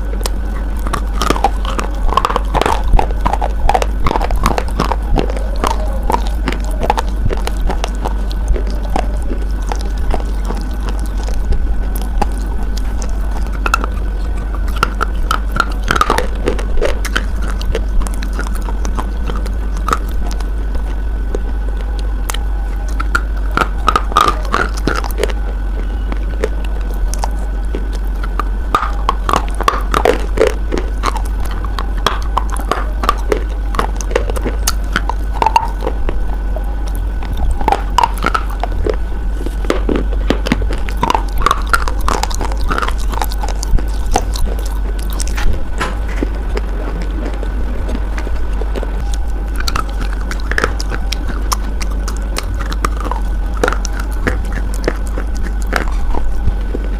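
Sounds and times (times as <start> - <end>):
biting and crunching hard bar: 0.0 - 56.9
steady low hum: 0.0 - 56.9.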